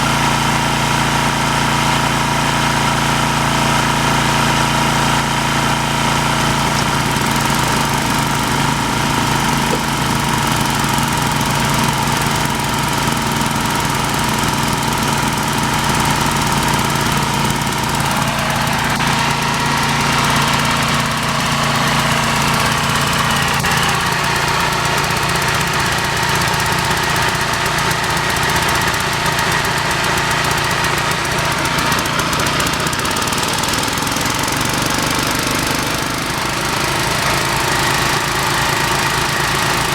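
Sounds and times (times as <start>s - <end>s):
small air compressor engines running: 0.0s - 39.9s.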